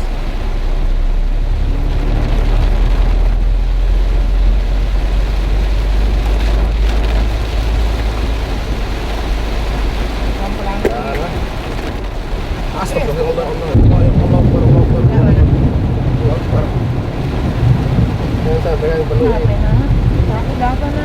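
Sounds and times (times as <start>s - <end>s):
deep rumble: 0.0s - 21.0s
heavy rain pouring: 0.0s - 21.0s.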